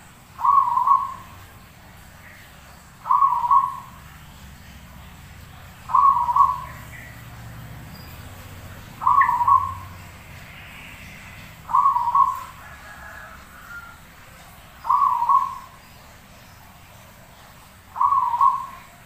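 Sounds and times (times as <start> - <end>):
dove cooing: 0.4 - 16.2, 16.9 - 19.0.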